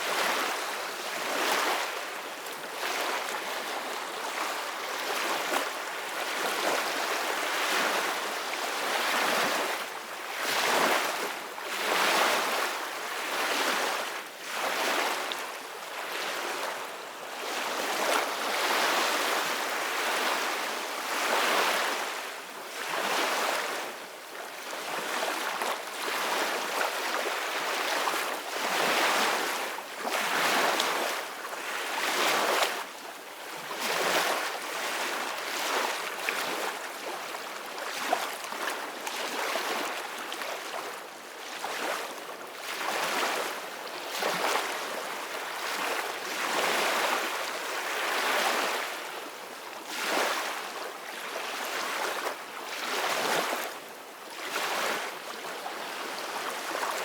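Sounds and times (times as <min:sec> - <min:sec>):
ocean waves on a beach: 0:00.0 - 0:57.0.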